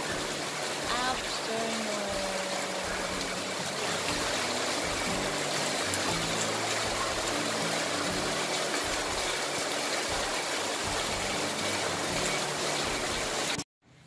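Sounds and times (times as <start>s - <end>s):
heavy rain on pavement: 0.0s - 13.6s.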